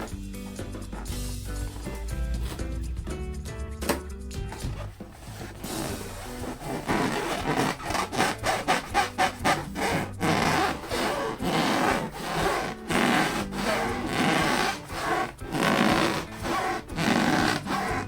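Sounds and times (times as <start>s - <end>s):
balloon being rubbed: 0.0s - 2.8s, 4.5s - 18.0s.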